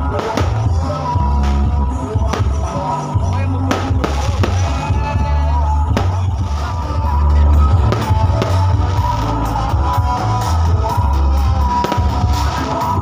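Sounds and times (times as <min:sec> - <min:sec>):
loud heavy bass music: 0:00.0 - 0:13.0.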